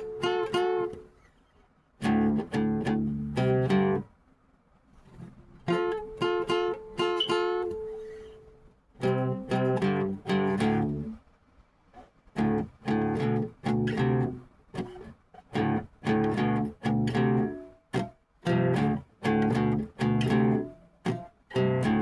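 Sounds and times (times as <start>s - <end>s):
guitar strumming chords: 0.0s - 1.2s, 2.0s - 4.1s, 5.2s - 11.2s, 12.0s - 22.0s.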